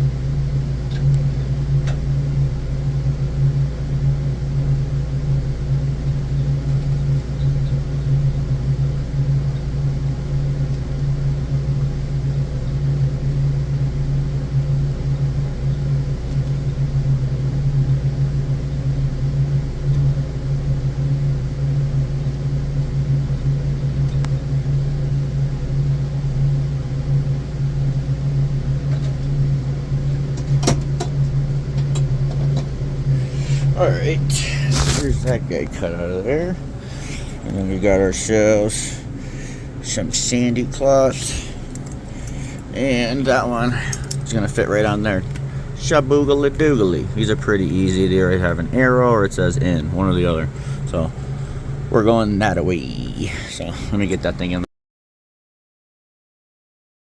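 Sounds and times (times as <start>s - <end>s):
machinery humming: 0.0s - 54.7s.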